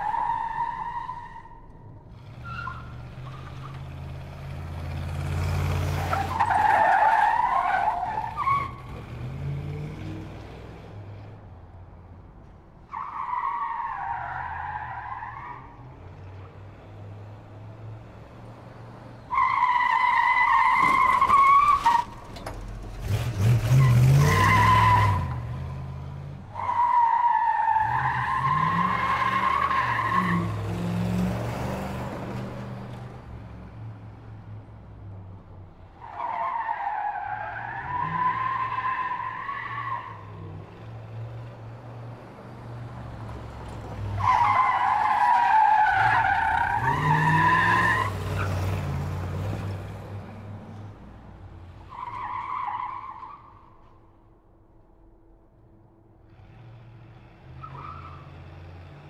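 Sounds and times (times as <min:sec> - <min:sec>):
car tyres screeching: 0:00.0 - 0:10.4, 0:12.8 - 0:16.8, 0:18.8 - 0:33.3, 0:35.7 - 0:54.2, 0:57.4 - 0:59.0.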